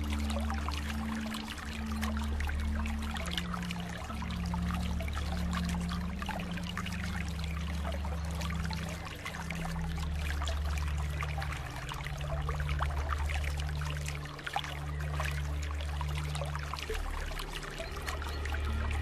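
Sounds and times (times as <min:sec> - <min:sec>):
low hum: 0:00.0 - 0:19.0
water trickling and splashing: 0:00.0 - 0:19.0.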